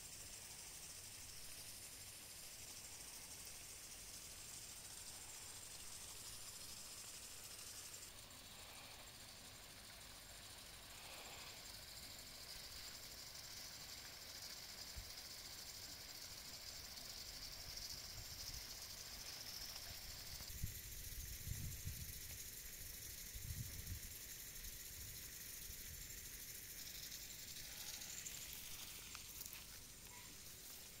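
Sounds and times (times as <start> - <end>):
steady high hiss: 0.0 - 31.0.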